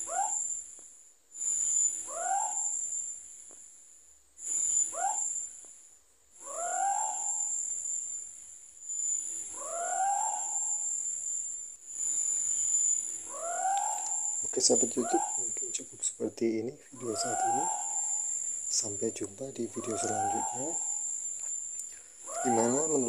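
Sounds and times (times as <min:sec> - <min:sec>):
owl calling: 0:00.0 - 0:00.6, 0:01.4 - 0:03.0, 0:04.5 - 0:05.6, 0:06.4 - 0:08.0, 0:08.9 - 0:23.0
insects trilling: 0:00.0 - 0:23.0.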